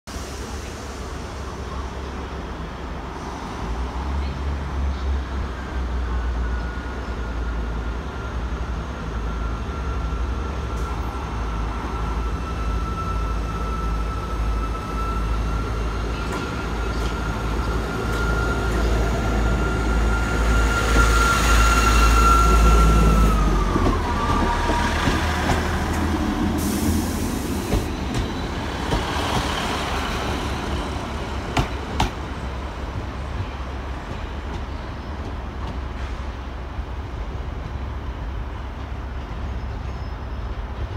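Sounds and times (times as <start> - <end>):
train engine rumble: 0.1 - 40.9
train whine: 0.1 - 40.9.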